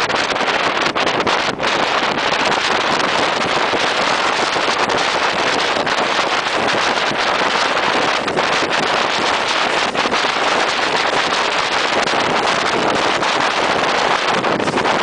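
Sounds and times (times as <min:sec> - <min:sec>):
wind on microphone: 0:00.0 - 0:15.0
railway carriage running noise: 0:01.5 - 0:15.0.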